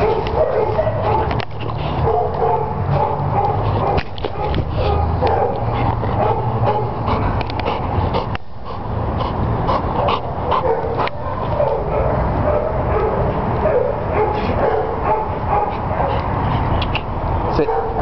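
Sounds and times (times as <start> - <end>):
dogs barking: 0.0 - 16.7, 17.5 - 18.0.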